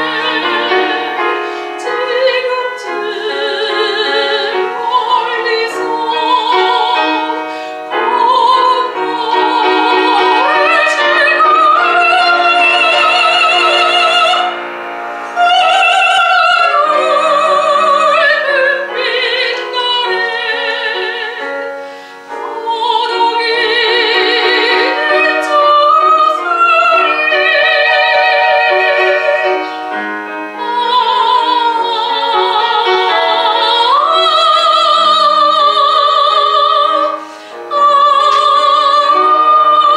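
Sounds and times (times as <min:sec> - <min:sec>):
piano accompaniment: 0:00.0 - 0:39.9
soprano singing: 0:00.0 - 0:39.9.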